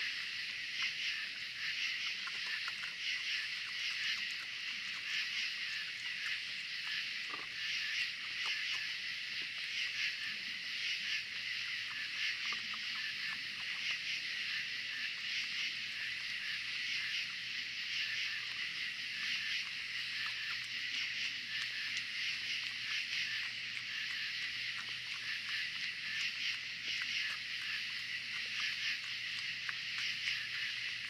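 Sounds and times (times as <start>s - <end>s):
night insects chorus: 0.0s - 31.0s
raccoons chewing food: 0.0s - 31.0s.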